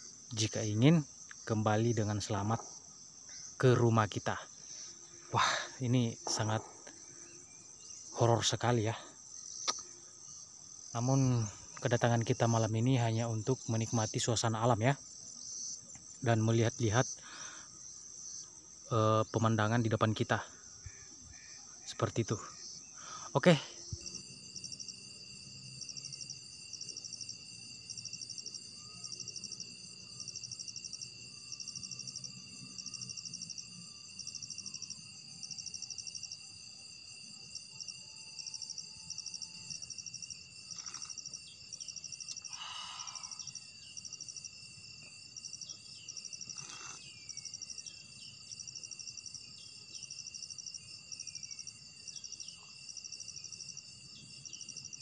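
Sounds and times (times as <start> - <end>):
crickets and insects trilling: 0.0 - 55.0.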